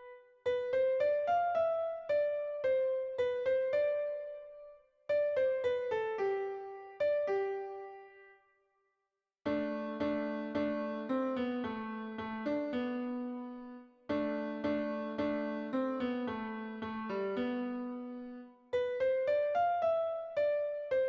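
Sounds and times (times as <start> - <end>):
piano-like keyboard music: 0.0 - 8.3, 9.5 - 21.0.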